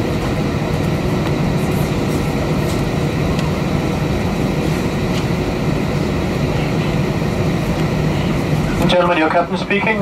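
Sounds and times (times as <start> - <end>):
airplane engines idling: 0.0 - 10.0.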